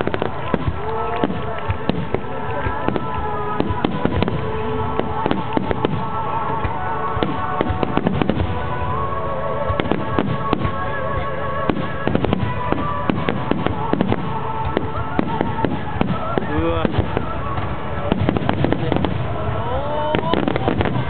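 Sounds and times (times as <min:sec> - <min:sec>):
fireworks bangs: 0:00.0 - 0:21.0
fireworks rumble and crackle: 0:00.0 - 0:21.0.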